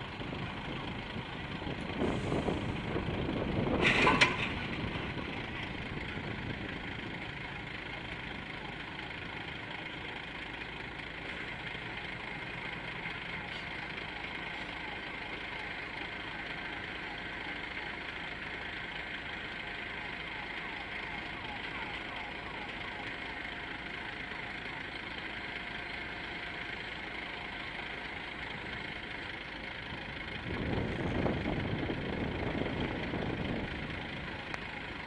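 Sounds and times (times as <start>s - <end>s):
lorry diesel engine running: 0.0s - 35.0s.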